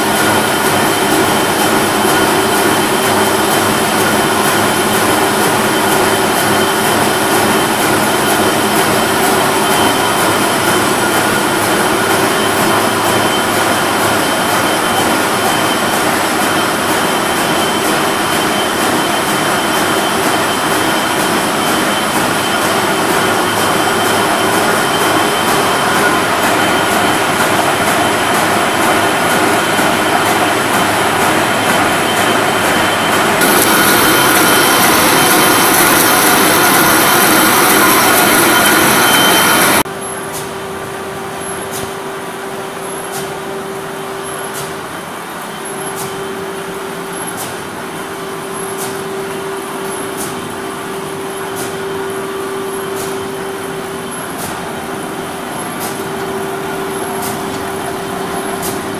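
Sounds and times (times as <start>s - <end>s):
paper sheeter machine clatter: 0.0s - 40.6s, 44.4s - 58.9s
steady machine whine: 0.0s - 41.6s, 47.8s - 58.9s.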